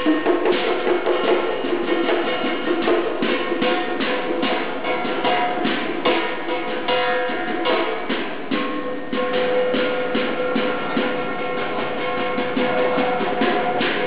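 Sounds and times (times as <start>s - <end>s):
drum and cymbal strikes: 0.0s - 14.0s.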